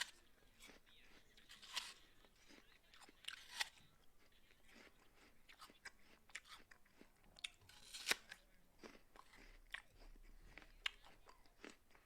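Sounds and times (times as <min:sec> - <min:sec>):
person crunching an apple: 0:00.0 - 0:12.0.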